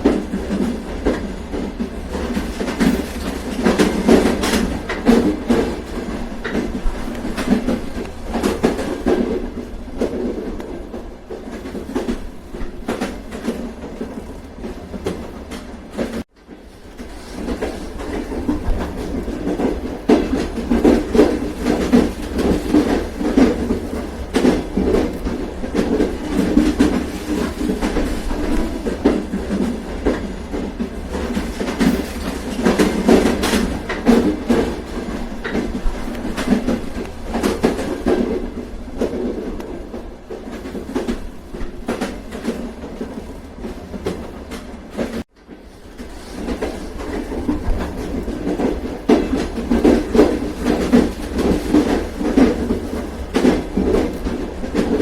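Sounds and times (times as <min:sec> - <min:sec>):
train rumbling on track: 0:00.0 - 0:55.0
wheels clicking over rail joints: 0:00.0 - 0:55.0.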